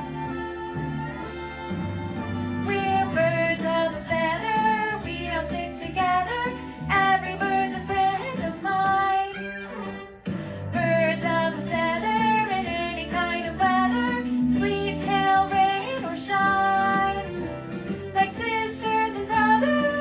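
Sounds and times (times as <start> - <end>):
guitar-like accompaniment: 0.0 - 20.0
children's song sung: 0.4 - 20.0.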